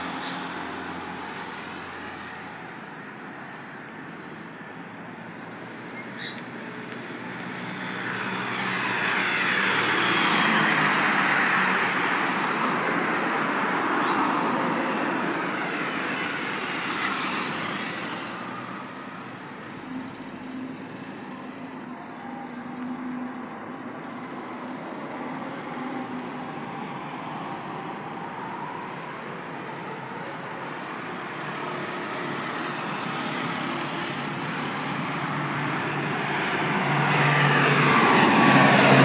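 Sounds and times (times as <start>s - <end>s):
turboprop airliner taking off: 6.6s - 39.0s.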